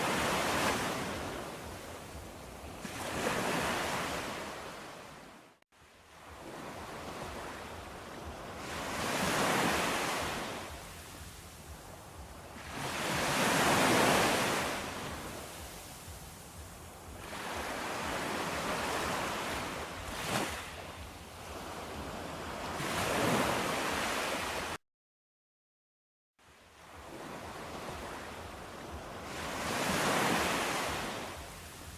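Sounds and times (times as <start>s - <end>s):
waves breaking: 0.0s - 5.4s, 6.1s - 24.8s, 26.8s - 31.9s.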